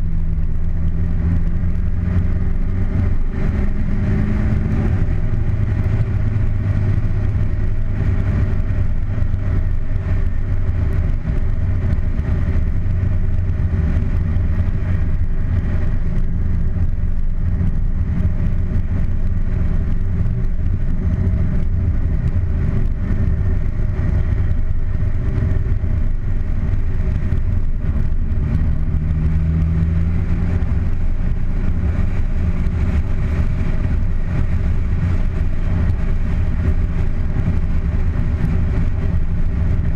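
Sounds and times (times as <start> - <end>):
car engine running: 0.0 - 39.9
road and wind noise: 0.0 - 39.9.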